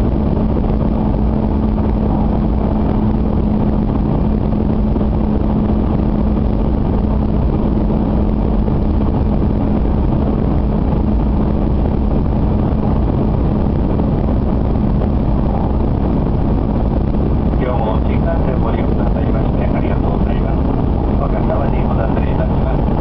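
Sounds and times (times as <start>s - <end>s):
low hum: 0.0s - 23.0s
rushing air: 0.0s - 23.0s.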